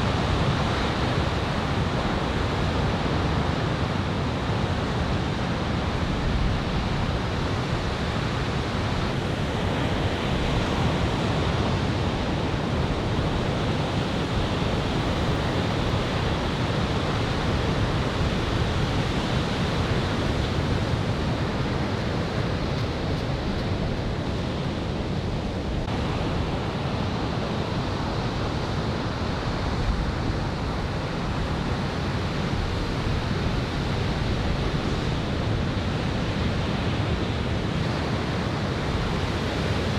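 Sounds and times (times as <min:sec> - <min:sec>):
ocean surf breaking on beach: 0:00.0 - 0:39.9
wind on microphone: 0:00.0 - 0:39.9.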